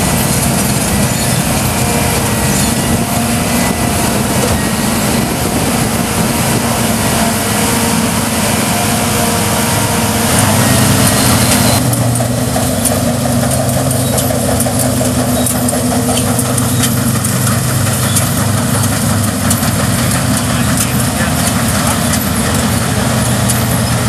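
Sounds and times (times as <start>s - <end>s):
combine harvester diesel engine: 0.0s - 24.0s.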